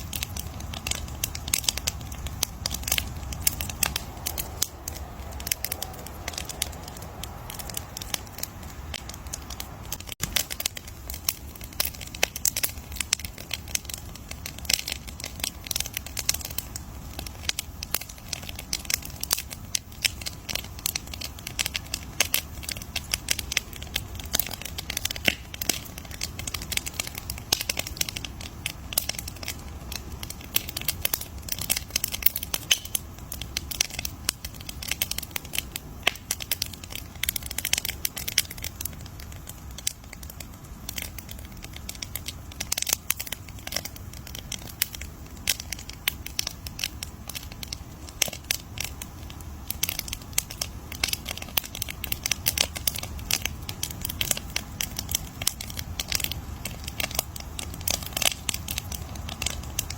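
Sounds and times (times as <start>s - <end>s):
burning wood snapping and popping: 0.0s - 59.9s
low steady fire rumble: 0.0s - 59.9s.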